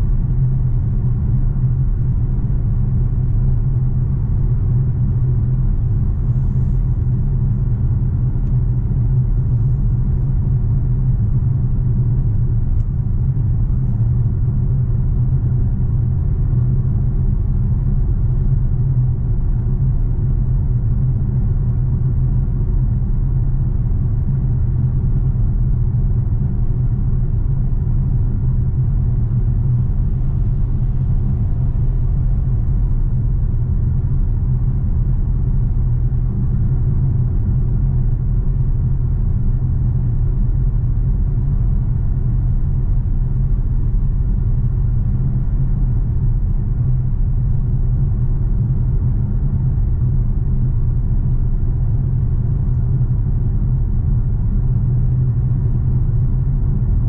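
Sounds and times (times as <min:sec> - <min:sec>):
car engine drone in cabin: 0:00.0 - 0:57.0
road rumble: 0:00.0 - 0:57.0.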